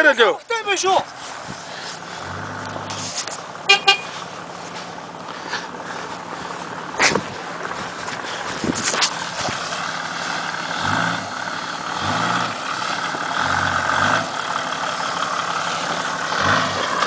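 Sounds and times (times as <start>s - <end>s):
engine revving at low speed: 1.2s - 17.0s.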